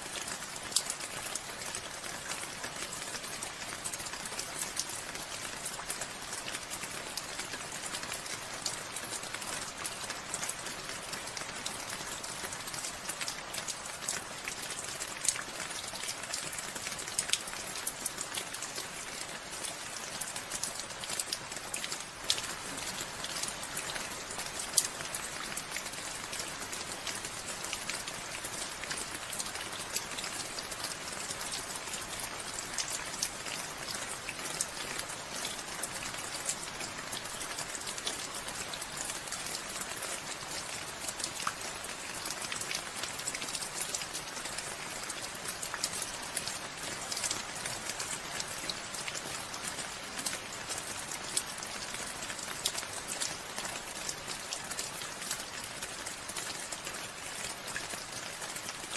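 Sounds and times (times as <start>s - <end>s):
steady rain patter: 0.0s - 58.9s.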